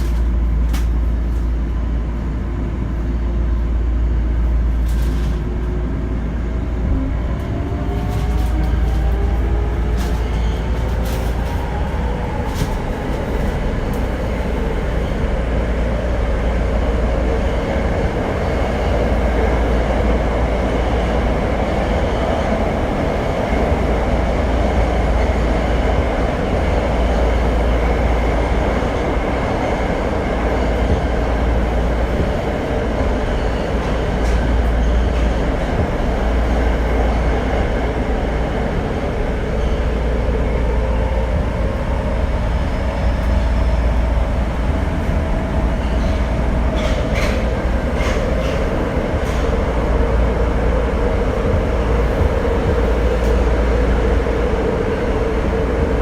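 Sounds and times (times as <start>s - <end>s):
subway train rumbling through tunnel: 0.0s - 56.0s.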